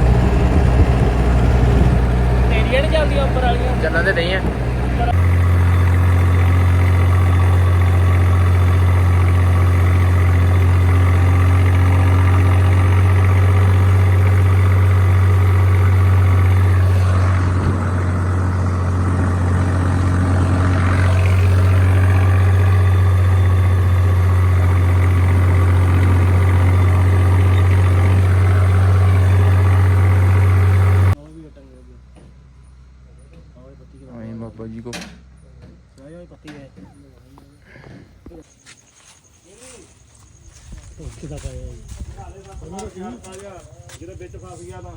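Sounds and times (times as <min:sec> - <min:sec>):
tractor diesel engine humming: 0:00.0 - 0:38.4.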